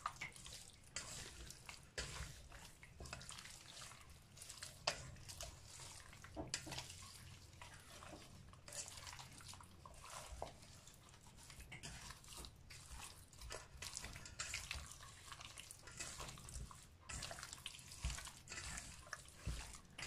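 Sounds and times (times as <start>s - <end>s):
hands squishing meat in marinade: 0.0s - 20.0s.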